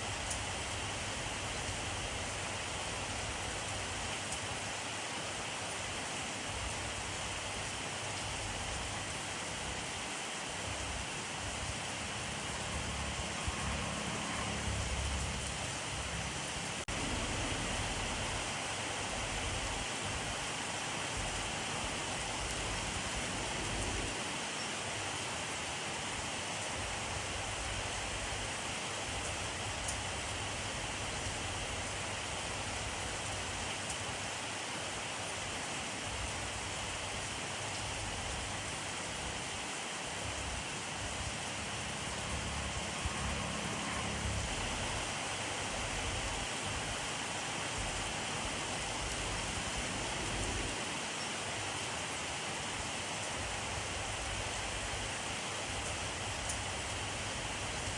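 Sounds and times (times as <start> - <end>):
rain hissing: 5.4 - 34.5, 35.5 - 57.9.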